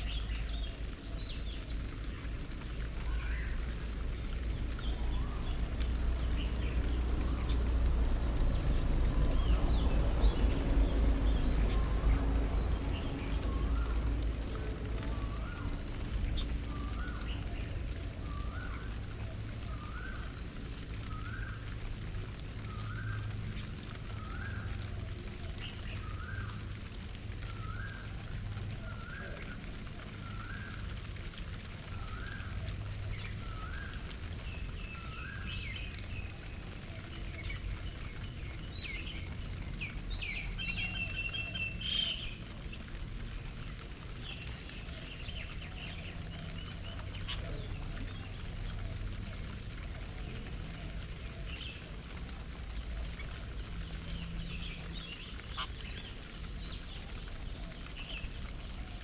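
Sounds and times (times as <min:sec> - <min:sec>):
birds chirping high: 0:00.0 - 0:59.0
low background rumble: 0:00.0 - 0:59.0.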